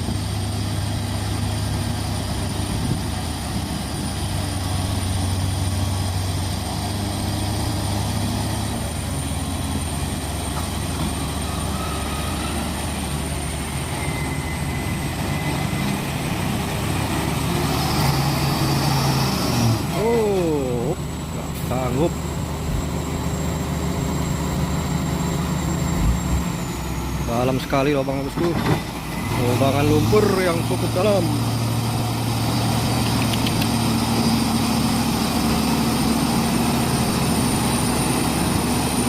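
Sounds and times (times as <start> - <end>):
truck diesel engine straining: 0.0 - 39.0.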